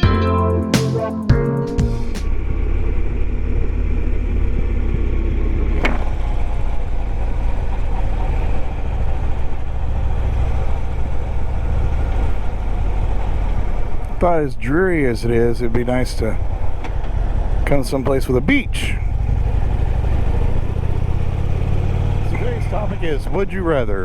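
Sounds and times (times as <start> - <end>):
motorcycle engine rumbling: 2.2 - 24.0.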